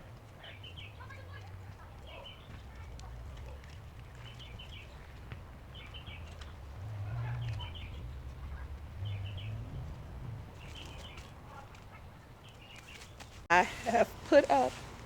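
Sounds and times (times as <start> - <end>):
low steady rumble: 0.0 - 12.2
songbird singing: 0.0 - 14.6.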